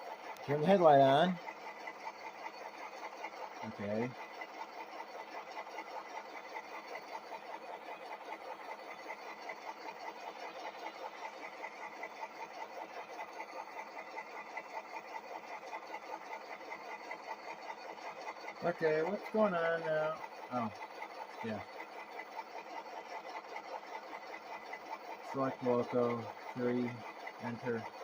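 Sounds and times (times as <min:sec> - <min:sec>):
diesel engine chugging from small speaker: 0:00.0 - 0:28.0.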